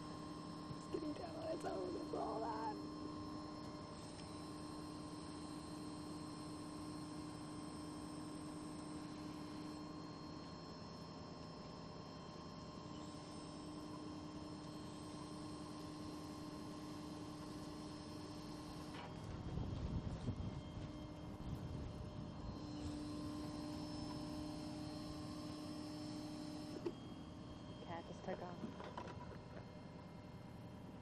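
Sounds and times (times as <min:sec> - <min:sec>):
steady hum of held tones: 0:00.0 - 0:31.0.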